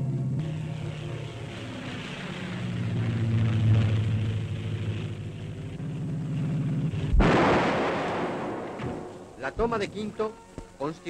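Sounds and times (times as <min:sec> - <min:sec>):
propeller aircraft droning: 0:00.0 - 0:11.0.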